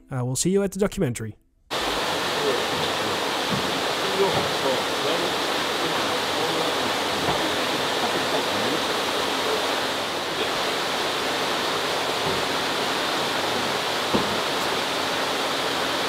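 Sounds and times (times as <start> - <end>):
running water rushing: 1.7 - 16.0.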